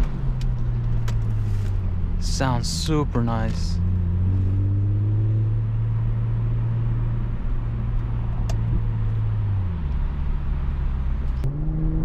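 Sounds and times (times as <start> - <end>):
car engine droning through exhaust: 0.0 - 12.0.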